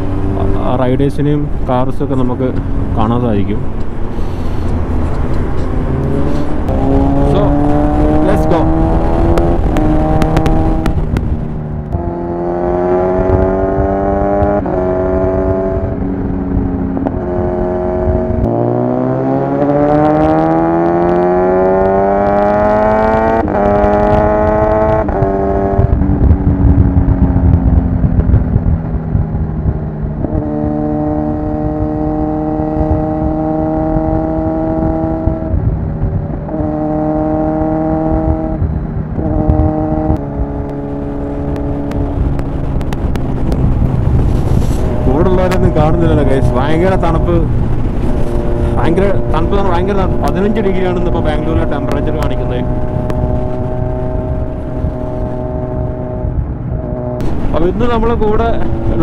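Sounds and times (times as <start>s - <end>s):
motorcycle engine changing gears: 0.0s - 59.0s
wind rush: 0.0s - 59.0s.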